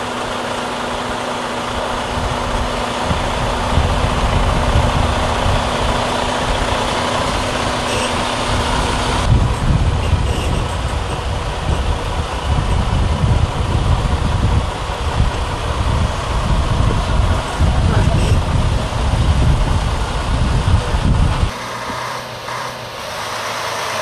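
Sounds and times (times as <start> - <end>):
diesel truck engines driving past: 0.0 - 24.0.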